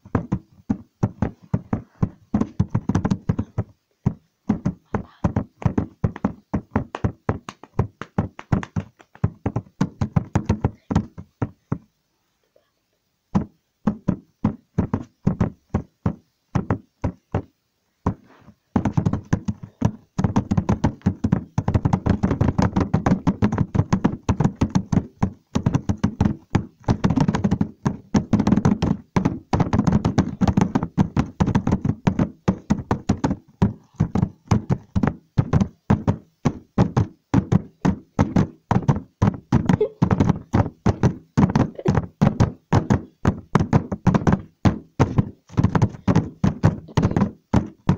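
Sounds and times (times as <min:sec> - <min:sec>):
rapid irregular knocking: 0:00.0 - 0:11.8, 0:13.4 - 0:18.2, 0:18.8 - 0:47.9.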